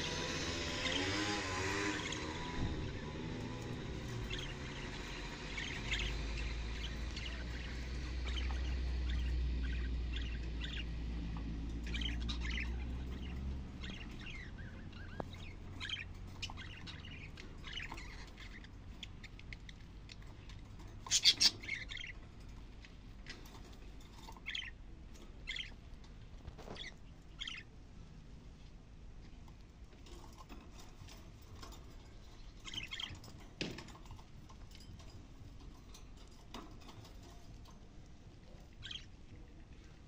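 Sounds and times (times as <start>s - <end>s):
budgerigars chirping: 0.1s - 27.8s, 30.0s - 40.0s.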